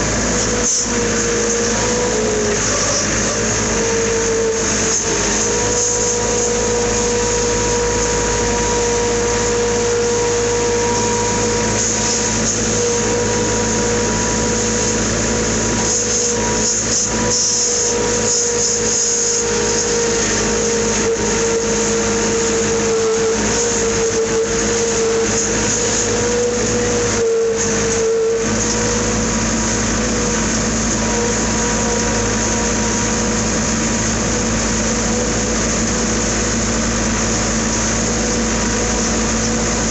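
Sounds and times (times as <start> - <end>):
farm machine engine running: 0.0 - 39.9
high engine whine: 0.0 - 39.9.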